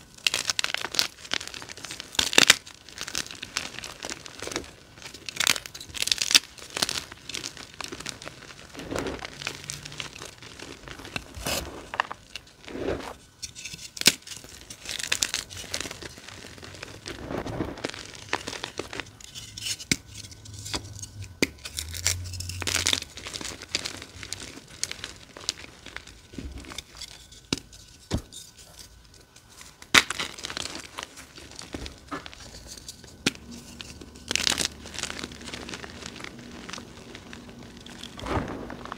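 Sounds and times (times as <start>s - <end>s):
chalk crunching and crumbling: 0.0s - 38.9s
chalk pieces cracking: 0.0s - 38.9s.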